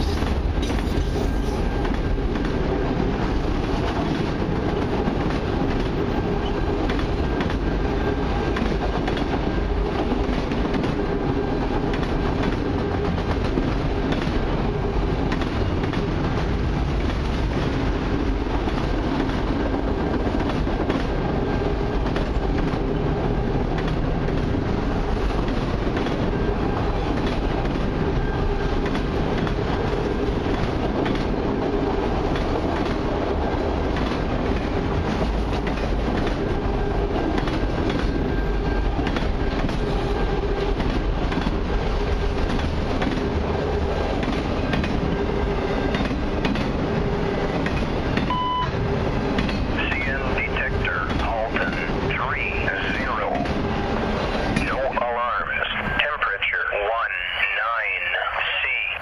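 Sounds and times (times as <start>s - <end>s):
freight train rumble: 0.0s - 59.0s.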